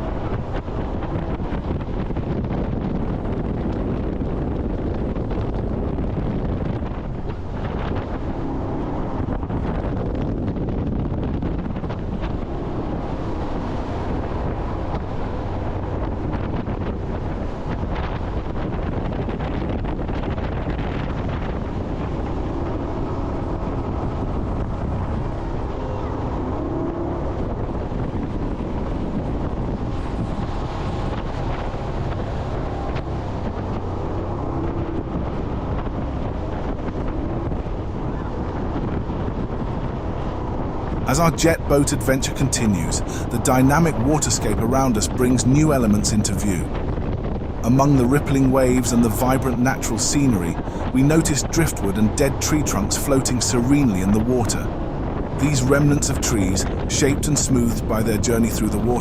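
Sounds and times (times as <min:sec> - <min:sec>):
boat engine: 0:00.0 - 0:59.0
rushing water: 0:00.0 - 0:59.0
wind buffeting microphone: 0:00.0 - 0:59.0.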